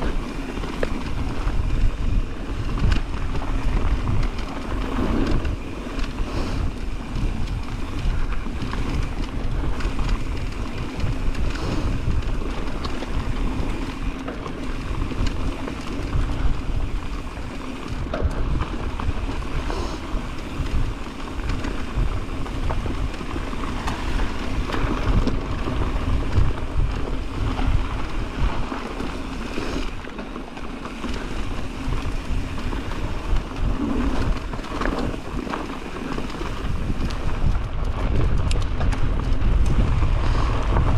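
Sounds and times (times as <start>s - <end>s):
bike knocks and rattles: 0.0s - 40.9s
tyres rolling over dirt: 0.0s - 40.9s
wind buffeting microphone: 0.0s - 40.9s.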